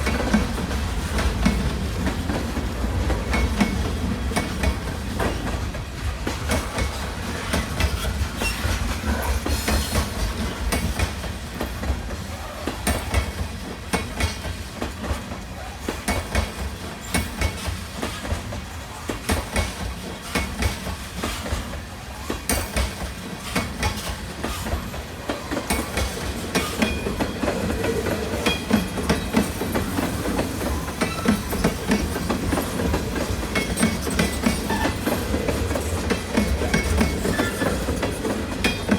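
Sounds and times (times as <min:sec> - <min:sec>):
railroad cars rolling on rails: 0:00.0 - 0:38.9.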